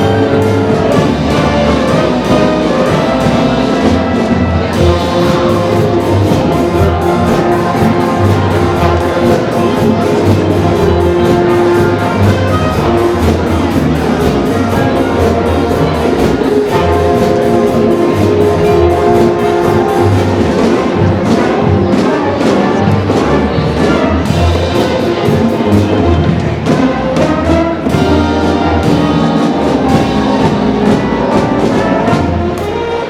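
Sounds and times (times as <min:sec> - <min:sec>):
brass held notes: 0:00.0 - 0:33.0
steady drum beat: 0:00.0 - 0:33.0.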